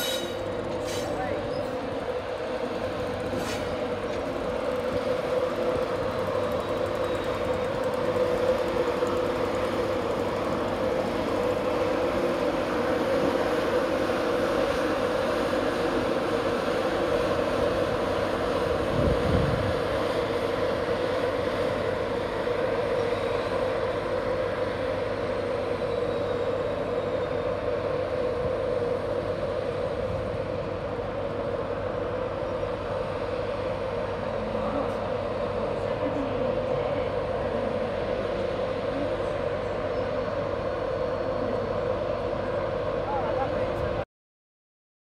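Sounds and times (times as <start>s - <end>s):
electric train humming: 0.0s - 44.0s.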